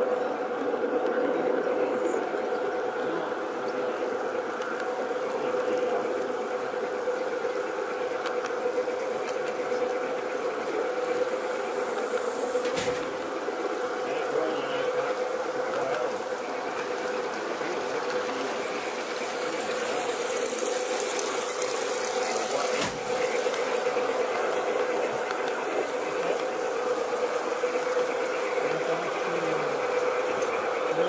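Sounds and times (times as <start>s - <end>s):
model train motor whining: 0.0s - 31.0s.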